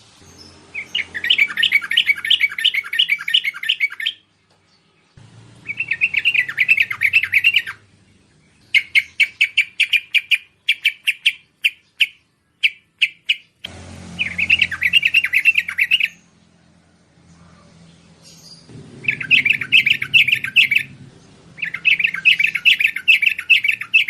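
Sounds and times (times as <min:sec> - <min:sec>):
bulbul singing: 0:00.2 - 0:16.6, 0:17.2 - 0:24.0.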